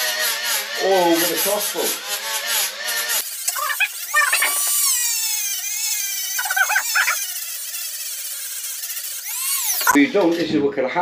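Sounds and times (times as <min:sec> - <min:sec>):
rough grinding on metal: 0:00.0 - 0:10.5
rotary tool whining: 0:00.0 - 0:10.6.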